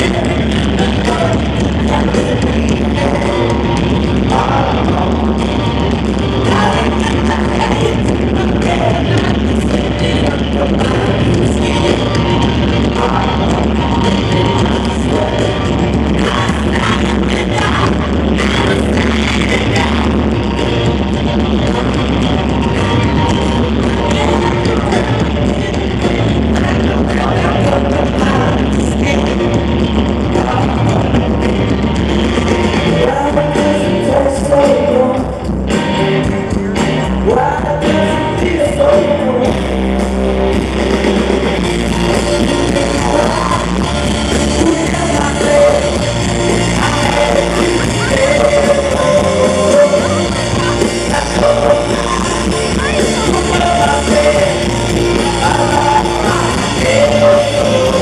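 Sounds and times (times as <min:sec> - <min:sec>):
lead singer singing: 0:00.0 - 0:58.0
live rock band playing: 0:00.0 - 0:58.0.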